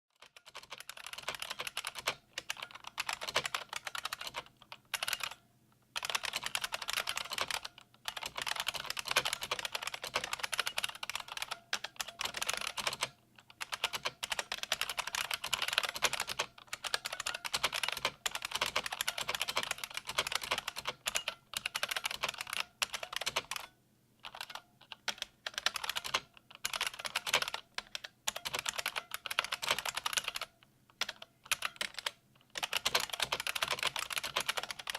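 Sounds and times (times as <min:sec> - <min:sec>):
keyboard keys clicking: 0:00.2 - 0:05.4, 0:06.0 - 0:23.7, 0:24.3 - 0:34.9.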